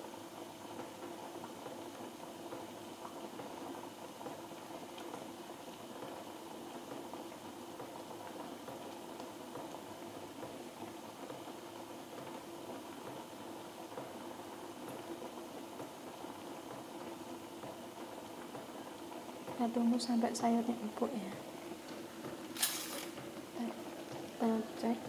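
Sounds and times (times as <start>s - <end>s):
soup bubbling at a boil: 0.0s - 25.0s.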